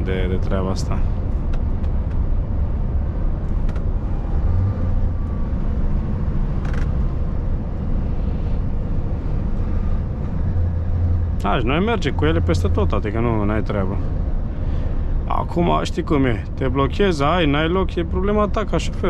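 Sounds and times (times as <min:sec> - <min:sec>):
diesel truck engine droning: 0:00.0 - 0:19.0
road and tyre noise: 0:00.0 - 0:19.0.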